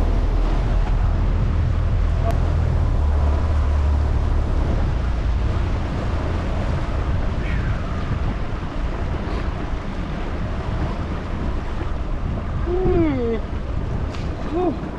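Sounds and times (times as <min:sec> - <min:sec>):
water rushing against boat: 0:00.0 - 0:14.9
wind buffeting microphone: 0:00.0 - 0:14.9.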